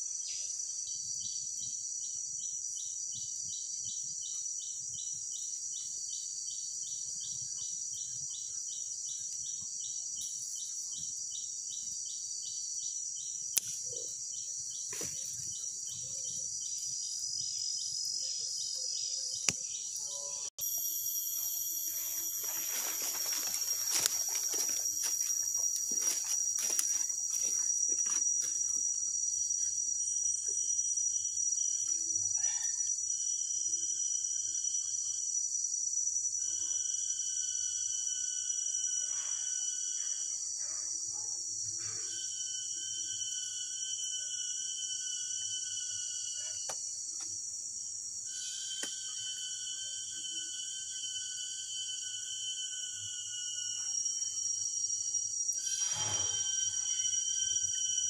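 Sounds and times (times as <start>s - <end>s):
lower-pitched insect call droning: 0.0s - 58.0s
high-pitched insect buzz: 2.4s - 58.0s.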